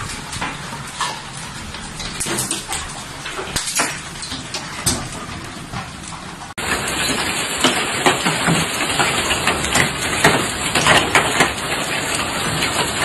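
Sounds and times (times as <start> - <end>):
hail falling hard: 0.0 - 13.0.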